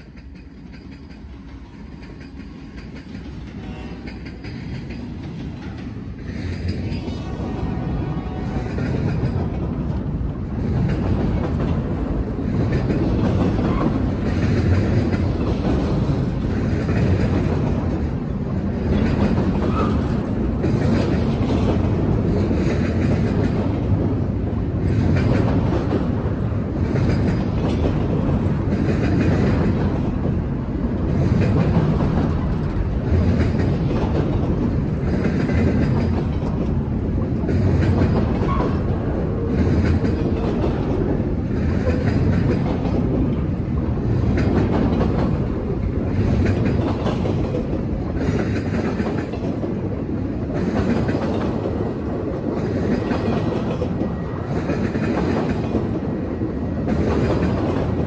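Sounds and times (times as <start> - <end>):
train wheels rumbling on rails: 0.0 - 58.0
wheels clicking over rail joints: 0.0 - 58.0.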